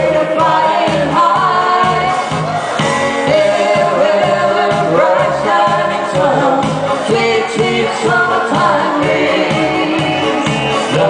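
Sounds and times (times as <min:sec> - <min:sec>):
backing music with beat: 0:00.0 - 0:11.0
man and woman singing duet: 0:00.0 - 0:11.0.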